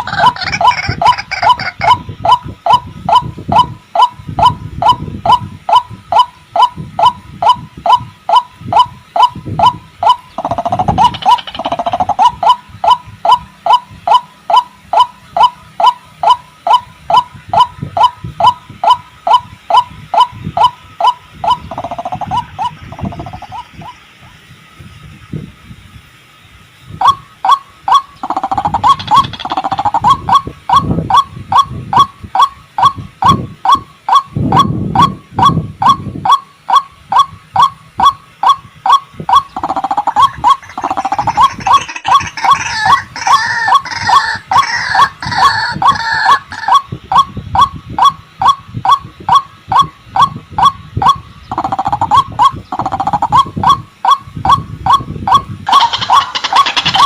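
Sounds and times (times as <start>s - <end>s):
higher bird chattering: 0.0s - 24.0s, 27.0s - 57.0s
waterhen calling: 0.0s - 24.5s, 26.3s - 57.0s.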